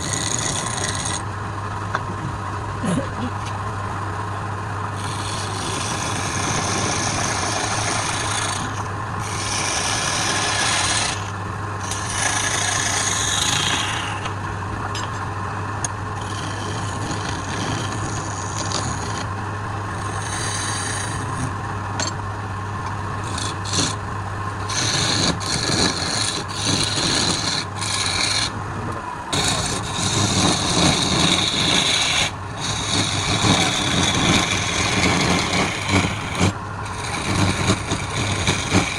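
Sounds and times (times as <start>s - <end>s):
turning tool scraping wood: 0.0s - 1.2s, 5.0s - 14.4s, 16.1s - 22.1s, 23.1s - 38.9s
wood lathe motor hum: 0.0s - 1.3s, 4.2s - 14.6s, 15.6s - 38.9s.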